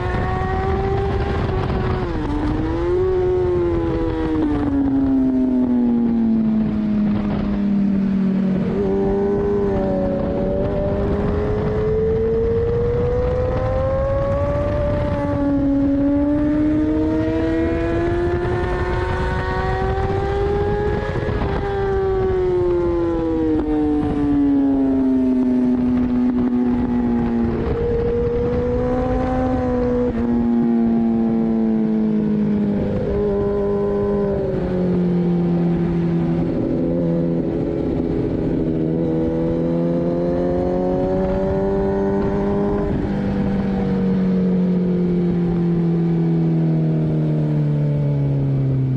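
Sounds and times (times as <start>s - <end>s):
wind rush: 0.0s - 46.6s
motorcycle engine accelerating: 0.0s - 48.9s.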